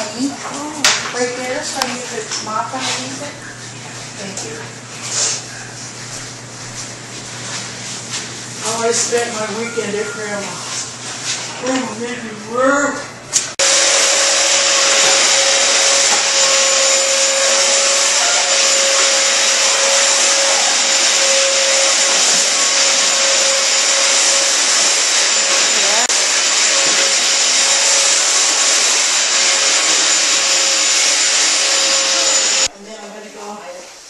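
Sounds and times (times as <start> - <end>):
vacuum cleaner running: 0.0 - 32.7.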